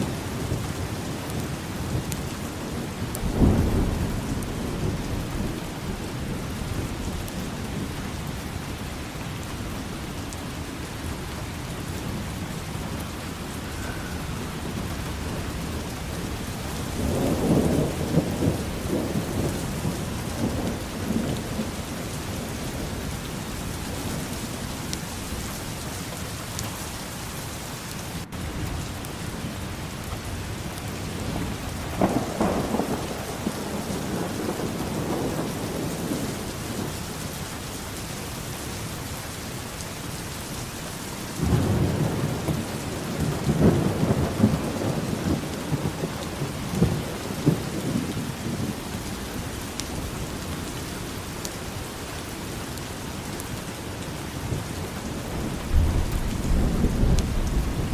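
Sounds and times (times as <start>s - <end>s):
low rolling thunder: 0.0s - 9.2s, 10.9s - 25.9s, 28.2s - 37.6s, 41.3s - 52.8s, 53.5s - 57.9s
steady rainfall: 0.0s - 57.9s.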